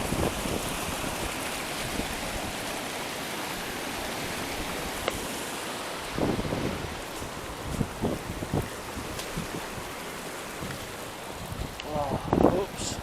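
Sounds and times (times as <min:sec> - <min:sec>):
rushing mountain torrent: 0:00.0 - 0:13.0.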